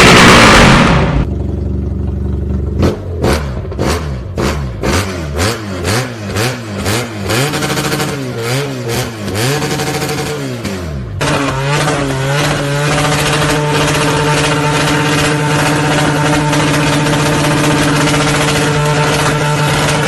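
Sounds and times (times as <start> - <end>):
motorcycle exhaust revving: 0.0 - 20.0.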